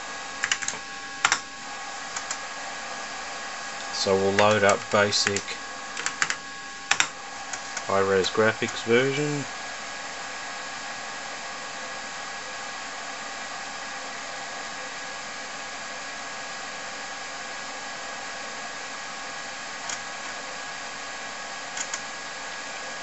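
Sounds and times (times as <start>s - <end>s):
computer and floppy drives whirring: 0.0s - 23.0s.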